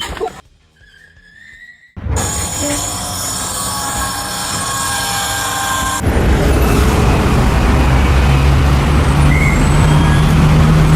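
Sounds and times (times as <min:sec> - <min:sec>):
heavy engine running: 0:02.0 - 0:10.9.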